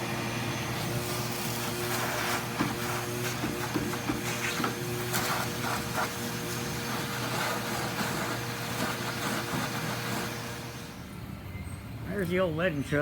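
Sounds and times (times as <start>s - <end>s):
vacuum cleaner running: 0.0s - 11.4s.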